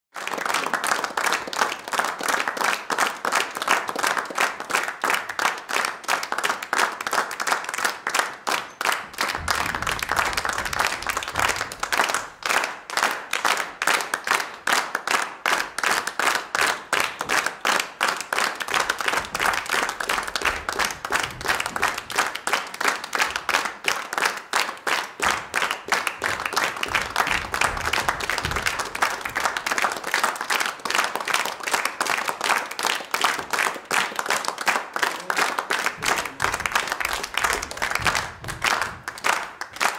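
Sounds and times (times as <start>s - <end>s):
crowd applauding: 0.1s - 39.9s.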